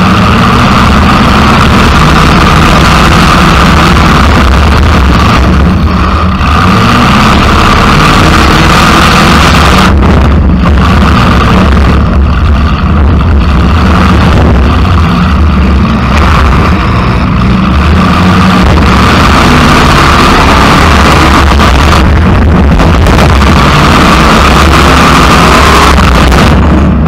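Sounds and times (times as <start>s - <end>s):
loud rough car engine: 0.0s - 27.0s.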